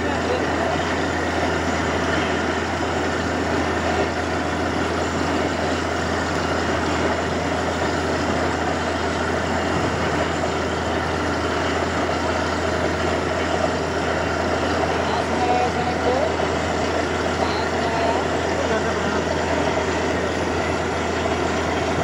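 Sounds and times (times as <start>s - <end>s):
drilling rig engine din: 0.0s - 22.0s.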